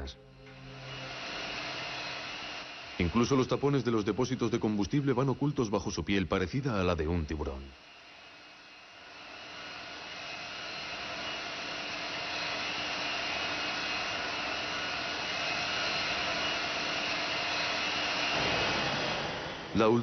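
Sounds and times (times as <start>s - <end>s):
jet engine whine and rush: 0.0s - 20.0s.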